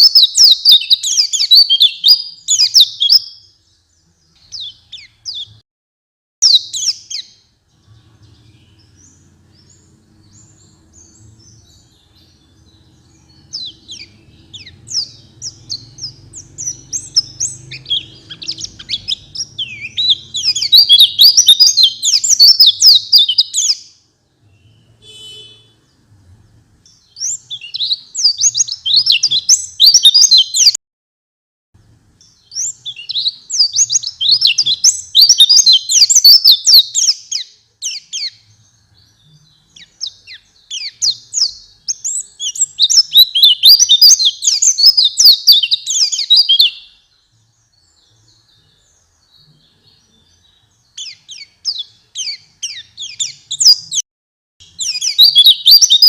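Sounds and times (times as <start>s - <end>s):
bird twittering song: 0.0s - 5.6s, 6.4s - 30.8s, 32.0s - 54.0s, 54.6s - 56.0s.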